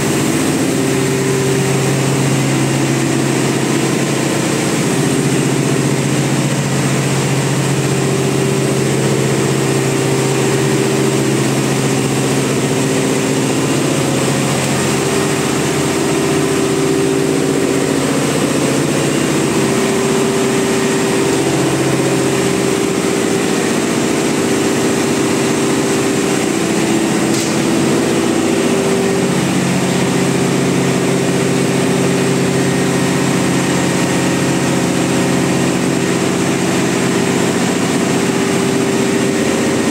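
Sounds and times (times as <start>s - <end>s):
marine diesel engine drone: 0.0s - 39.9s.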